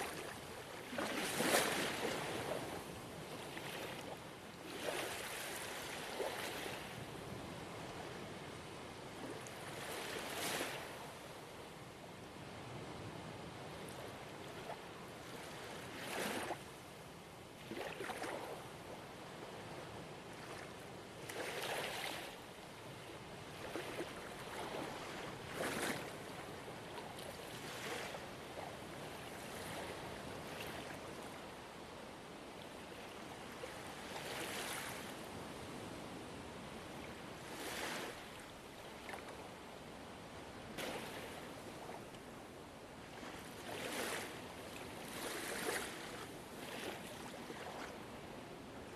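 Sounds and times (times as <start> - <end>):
small waves splashing: 0.0 - 8.0, 9.1 - 11.2, 13.8 - 16.7, 17.6 - 19.6, 20.3 - 22.6, 23.3 - 31.6, 32.6 - 35.9, 36.6 - 48.9
gentle ocean waves washing: 0.0 - 16.8, 17.5 - 48.9.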